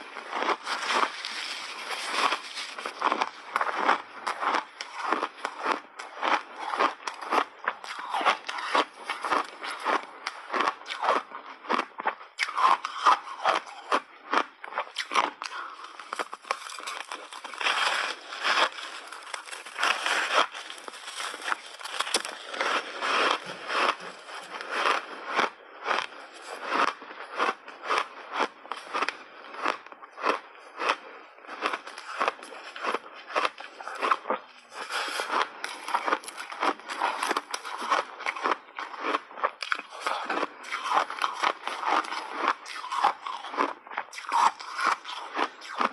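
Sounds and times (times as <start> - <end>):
ice being chewed with crunches: 0.0 - 45.9.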